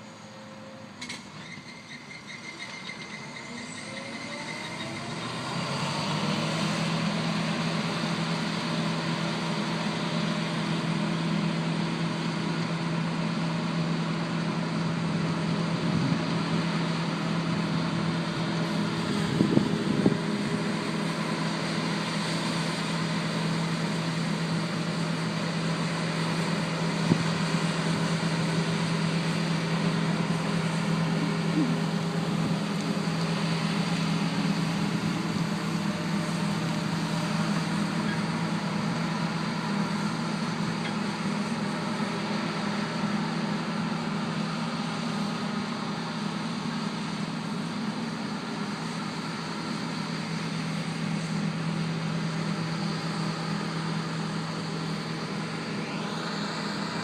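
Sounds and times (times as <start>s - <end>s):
heavy machinery engine humming: 0.0s - 57.0s.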